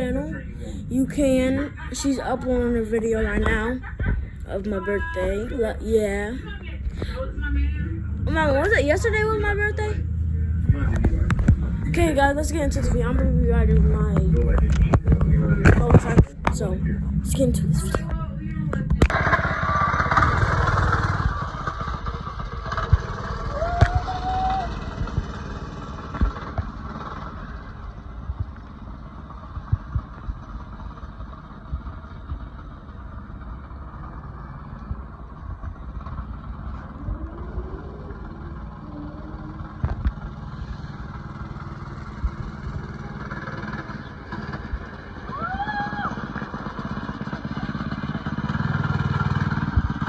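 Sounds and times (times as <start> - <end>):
dirt bike motor running: 0.0 - 50.0.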